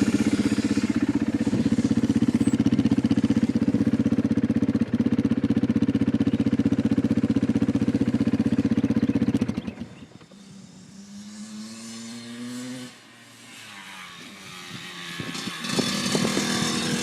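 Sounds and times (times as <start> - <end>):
loud dirt bike engine running: 0.0 - 17.0
quieter engine rising in pitch: 0.0 - 17.0.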